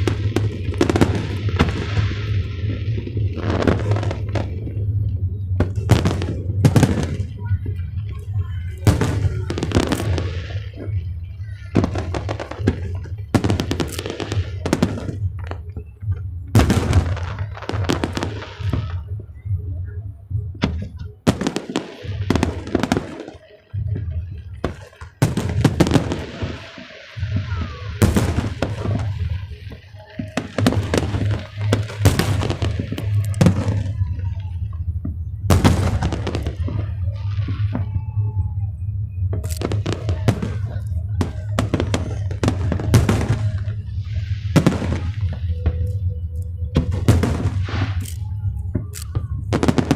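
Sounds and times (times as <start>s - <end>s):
fireworks bangs: 0.0s - 19.8s, 20.4s - 49.9s
background music: 0.0s - 49.9s.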